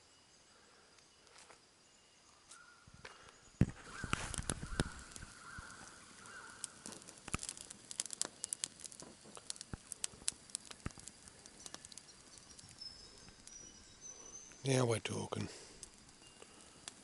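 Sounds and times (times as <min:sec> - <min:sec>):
campfire crackling and popping: 0:03.1 - 0:17.0.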